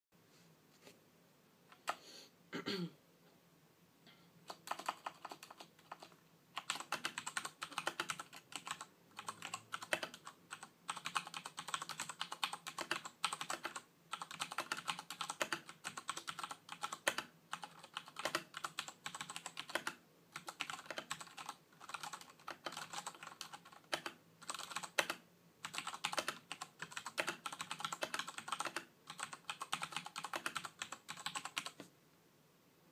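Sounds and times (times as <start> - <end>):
mechanical keyboard typing: 4.5 - 31.9.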